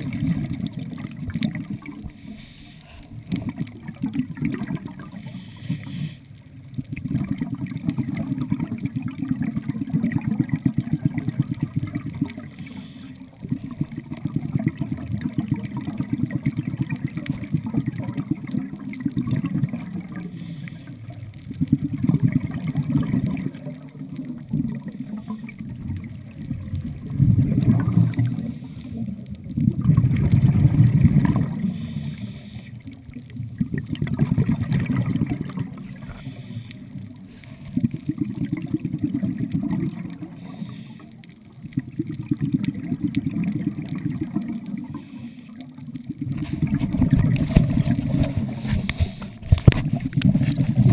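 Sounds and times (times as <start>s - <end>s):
underwater rumbling and gurgling: 0.0s - 50.9s.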